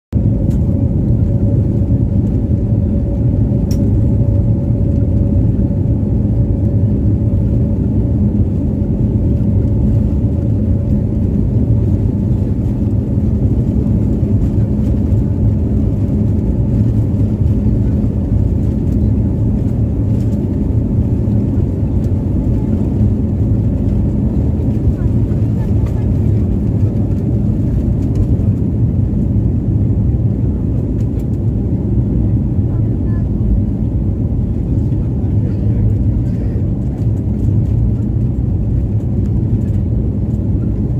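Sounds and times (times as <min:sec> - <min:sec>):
jet engines rumbling: 0:00.1 - 0:40.9.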